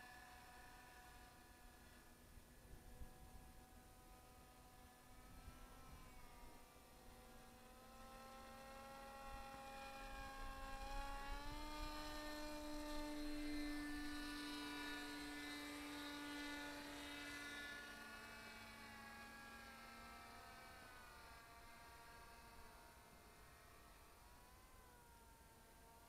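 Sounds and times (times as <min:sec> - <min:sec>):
paramotor engines passing overhead: 0:00.0 - 0:26.0.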